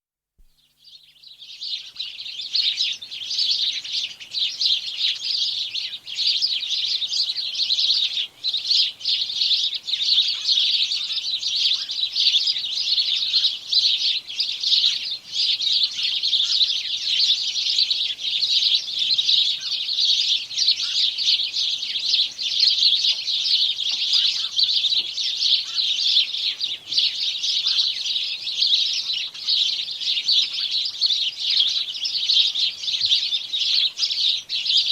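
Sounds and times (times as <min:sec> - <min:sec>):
sparrows chirping: 0:00.5 - 0:34.9.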